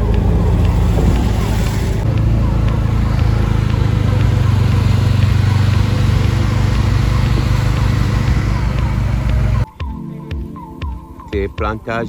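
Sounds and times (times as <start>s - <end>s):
road noise: 0.0s - 9.7s
vehicle engine drone: 0.0s - 9.7s.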